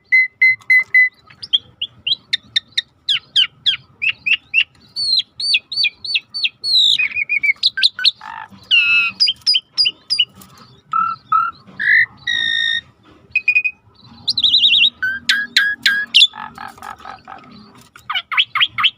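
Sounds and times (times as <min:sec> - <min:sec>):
starling singing: 0:00.0 - 0:18.9.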